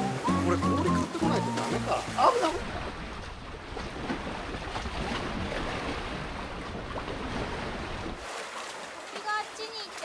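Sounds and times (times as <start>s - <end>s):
small waves against concrete: 1.5s - 10.0s.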